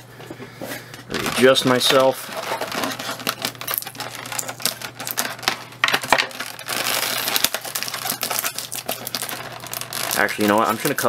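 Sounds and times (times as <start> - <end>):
plastic packaging crackling: 1.1 - 11.0.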